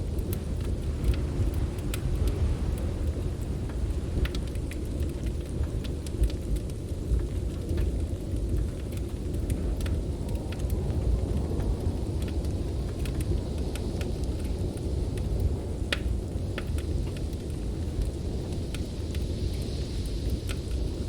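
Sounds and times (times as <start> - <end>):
blizzard wind rumble: 0.0 - 21.0
wood fire crackling: 0.0 - 21.0.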